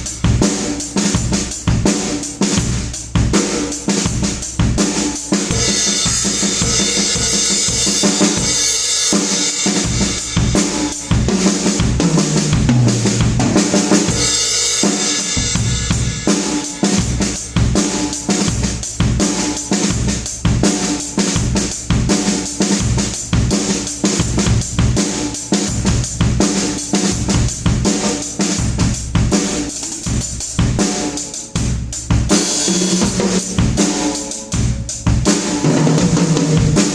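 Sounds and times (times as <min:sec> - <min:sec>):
loud drum-led music: 0:00.0 - 0:36.9.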